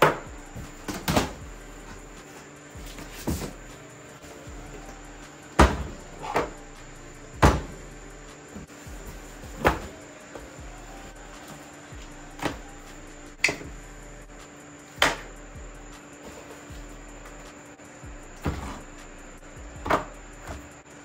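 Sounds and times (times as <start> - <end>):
low hum: 0.0 - 16.0, 16.7 - 20.5.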